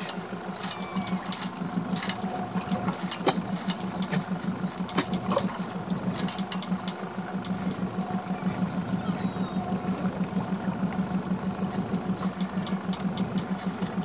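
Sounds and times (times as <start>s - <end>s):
outboard engine idling: 0.0s - 14.0s.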